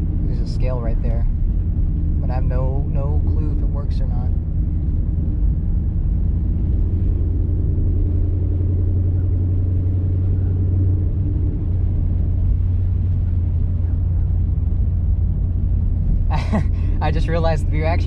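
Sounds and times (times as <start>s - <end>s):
car engine idling low drone: 0.0s - 18.0s.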